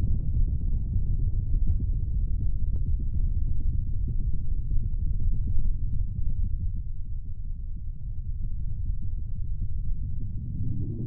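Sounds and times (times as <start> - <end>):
deep fluttering rumble: 0.0 - 11.0.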